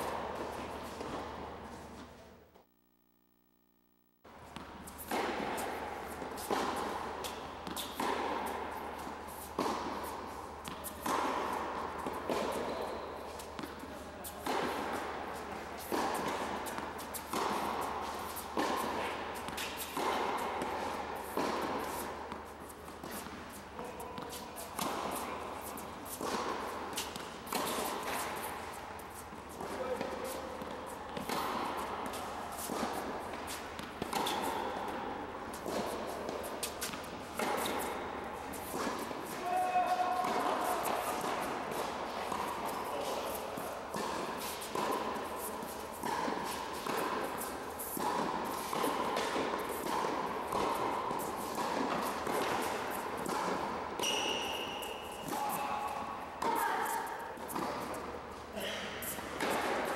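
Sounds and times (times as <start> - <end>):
racket hitting tennis ball: 0.0 - 2.2, 4.4 - 59.9.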